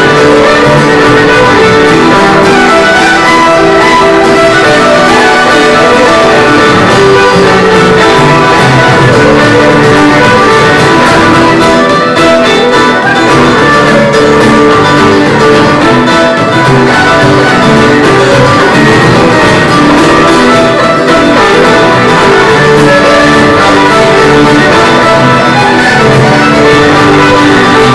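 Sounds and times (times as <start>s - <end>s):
live band playing: 0.0s - 27.9s.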